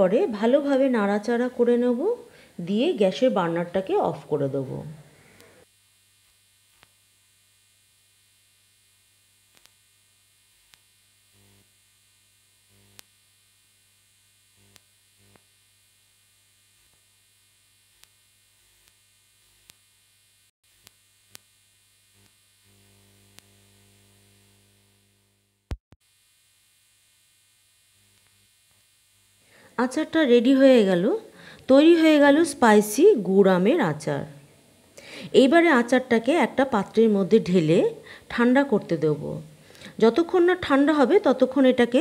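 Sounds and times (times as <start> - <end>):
faint electrical hum: 0.0 - 42.0.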